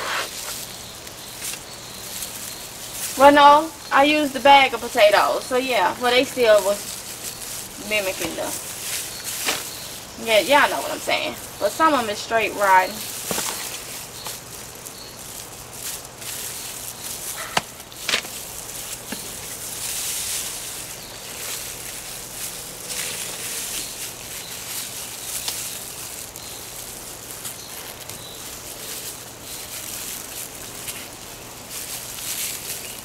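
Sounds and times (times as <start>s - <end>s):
digging through wet soil: 0.0s - 33.0s.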